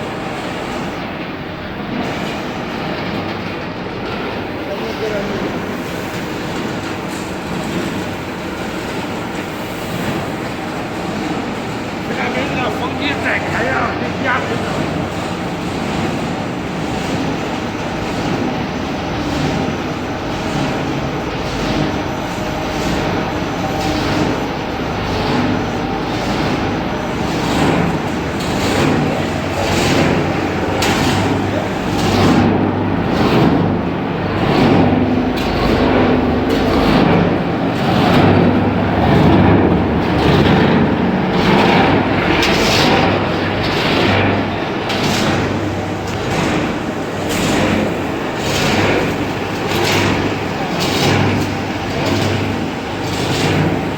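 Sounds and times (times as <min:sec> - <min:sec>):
furnace motors and blower: 0:00.0 - 0:53.9.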